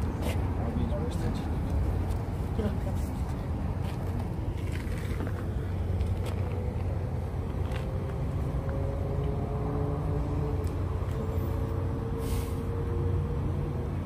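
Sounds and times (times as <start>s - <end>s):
motor vehicles rumbling: 0.0s - 14.0s.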